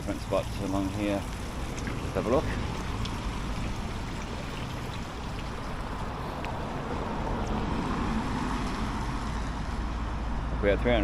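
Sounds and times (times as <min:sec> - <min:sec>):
river flowing: 0:00.0 - 0:10.6.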